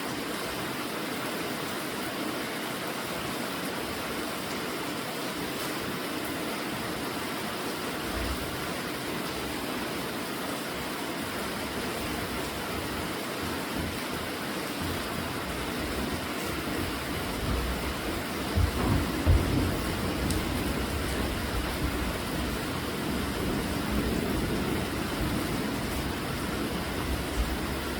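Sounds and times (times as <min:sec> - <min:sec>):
heavy rainfall: 0:00.0 - 0:27.9.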